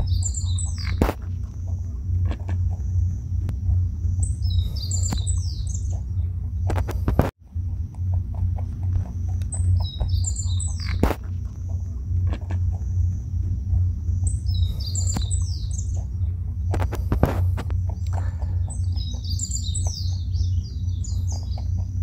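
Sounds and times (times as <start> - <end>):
low rumble: 0.0 - 22.0
small birds chirping: 0.0 - 22.0.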